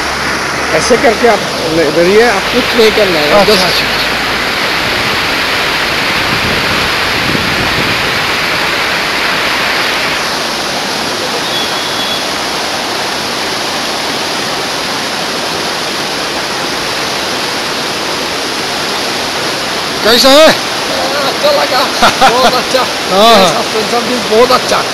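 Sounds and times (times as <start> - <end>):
river flowing over boulders: 0.0 - 24.9.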